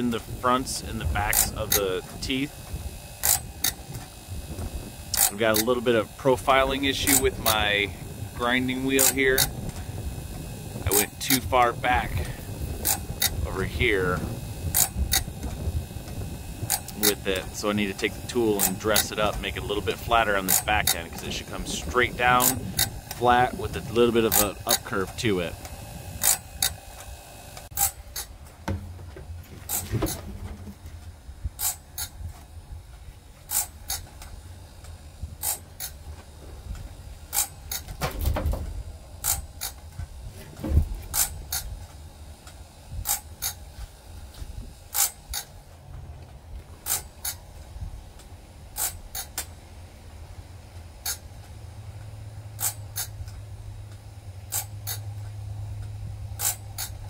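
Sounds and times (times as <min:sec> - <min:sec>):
sharp mechanical clicks: 0:00.0 - 0:28.4, 0:31.5 - 0:32.5, 0:33.4 - 0:36.0, 0:36.7 - 0:44.0, 0:44.9 - 0:45.6, 0:46.8 - 0:47.4, 0:48.2 - 0:49.6, 0:52.6 - 0:57.0
motor hum: 0:00.0 - 0:57.0.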